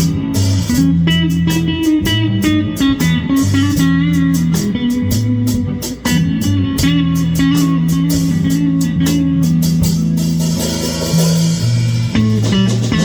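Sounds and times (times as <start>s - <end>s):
bass guitar: 0.0s - 13.0s
drum kit: 0.0s - 13.0s
electric guitar: 0.0s - 13.0s.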